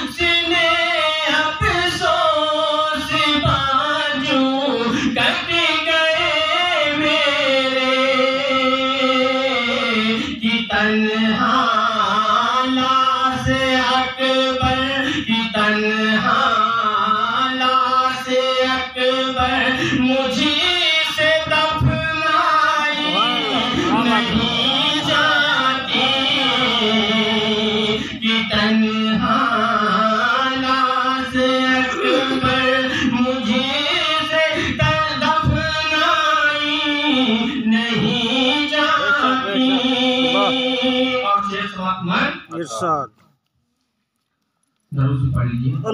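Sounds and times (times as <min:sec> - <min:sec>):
man singing devotional song: 0:00.0 - 0:42.6.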